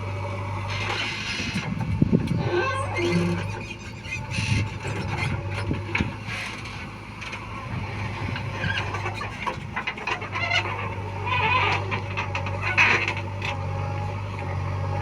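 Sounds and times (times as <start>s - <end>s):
heavy diesel engine humming: 0.0s - 15.0s.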